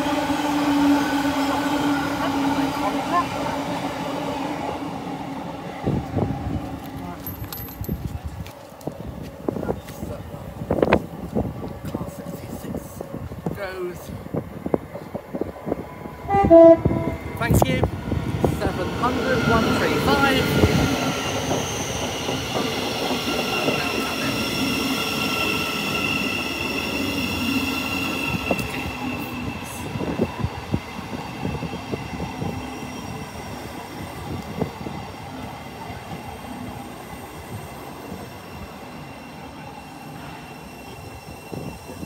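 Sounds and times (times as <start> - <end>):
electric train whine: 0.0 - 42.0
train wheels rumbling: 0.0 - 42.0.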